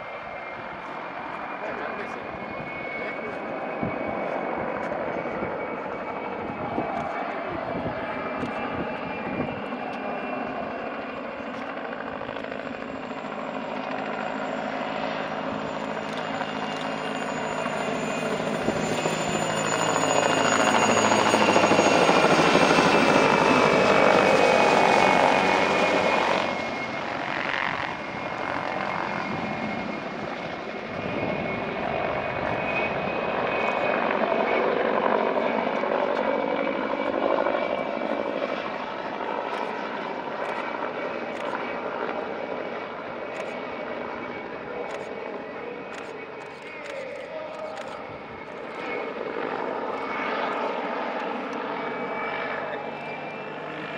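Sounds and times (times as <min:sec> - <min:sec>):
helicopter engine whine: 0:00.0 - 0:53.9
helicopter rotors: 0:00.0 - 0:53.9.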